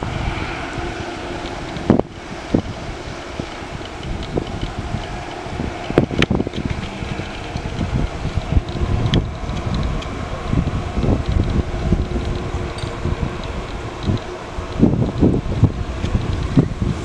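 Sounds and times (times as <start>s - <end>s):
distant jet engines running: 0.0s - 17.0s
wind buffeting microphone: 0.0s - 17.0s.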